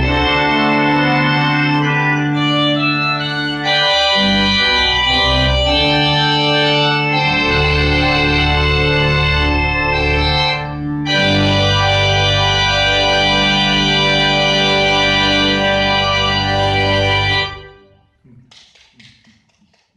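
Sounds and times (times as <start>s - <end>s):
pipe organ playing chords: 0.0s - 18.0s.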